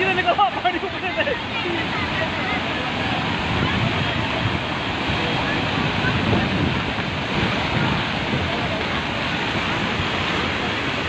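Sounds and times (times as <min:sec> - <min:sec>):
heavy rain: 0:00.0 - 0:11.0
running water: 0:00.0 - 0:11.0
wind buffeting microphone: 0:00.0 - 0:11.0.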